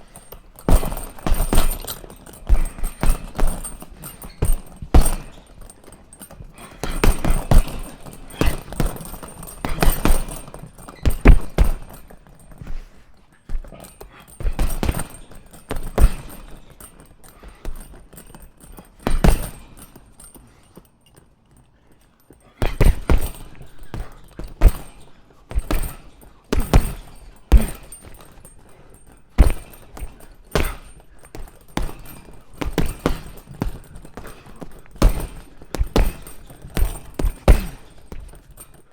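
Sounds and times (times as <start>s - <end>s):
punches on punching bag: 0.0s - 12.9s, 13.5s - 20.0s, 22.6s - 38.8s.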